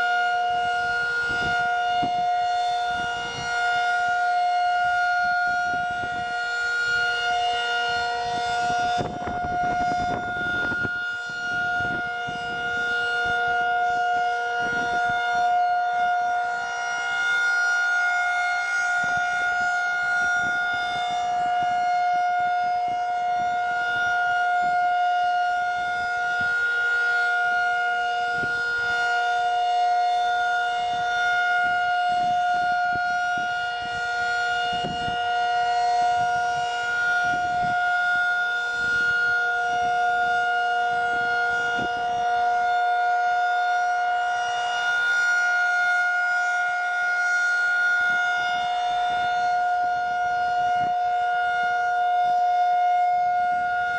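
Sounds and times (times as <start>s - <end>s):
civil defense siren steady tone: 0.0s - 53.9s.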